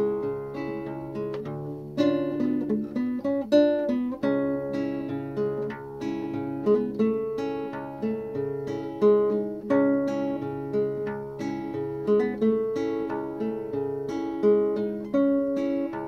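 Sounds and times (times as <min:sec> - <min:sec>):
classical acoustic guitar: 0:00.0 - 0:16.0.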